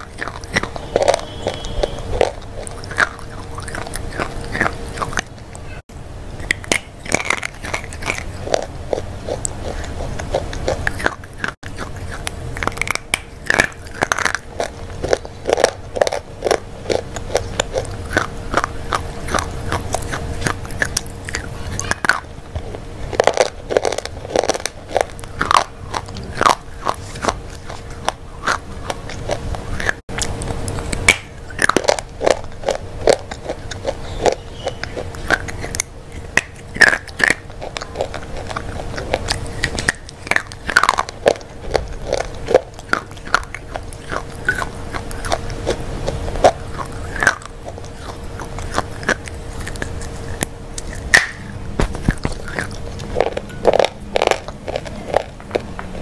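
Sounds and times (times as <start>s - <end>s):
crunchy biting and chewing: 0.0s - 56.0s
faint hum: 0.0s - 56.0s
mouth sounds: 0.0s - 56.0s.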